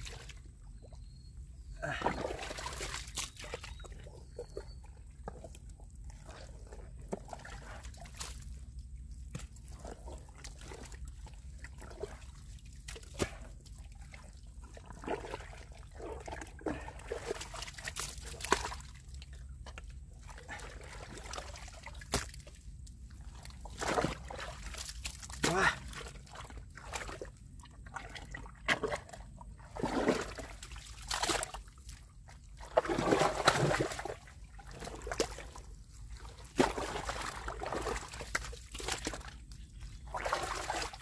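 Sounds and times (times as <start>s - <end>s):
wet mud squelching and sloshing: 0.0s - 41.0s.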